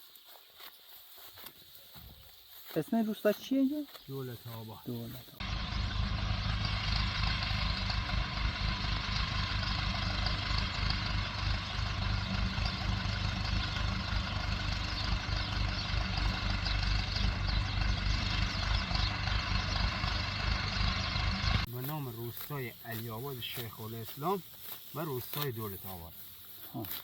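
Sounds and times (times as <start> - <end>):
motor engine rumbling: 3.8 - 27.0.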